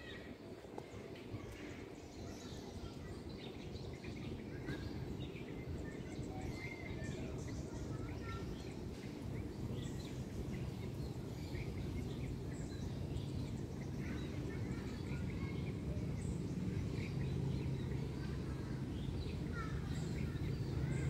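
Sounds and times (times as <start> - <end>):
bird chirps and calls: 1.4 - 21.0.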